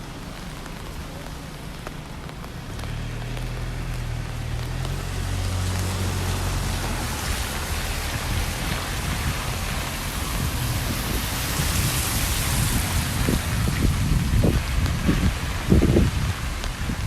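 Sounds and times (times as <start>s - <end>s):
rain hissing on street: 0.0s - 17.0s
rain pattering on umbrella: 0.0s - 17.0s.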